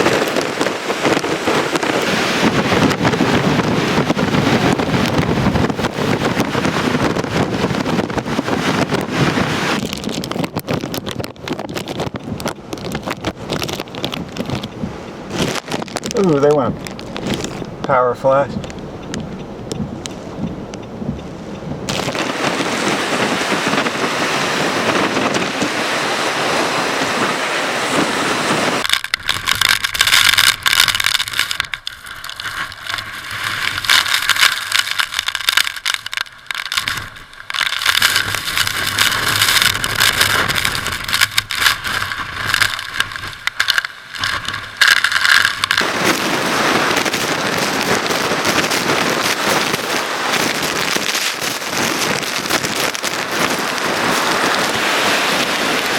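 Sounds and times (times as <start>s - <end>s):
driving rain: 0.0s - 55.9s
hurricane wind: 0.0s - 55.9s.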